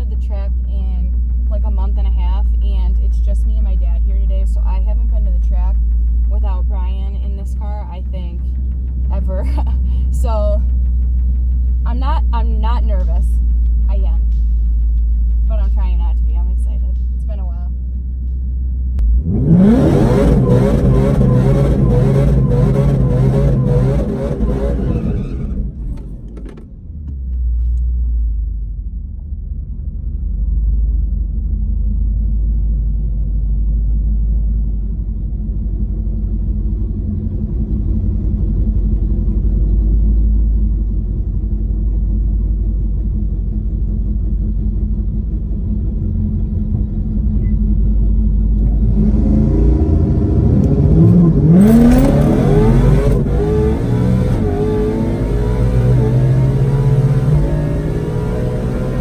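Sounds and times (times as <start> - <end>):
car engine rumbling and revving: 0.0 - 59.0.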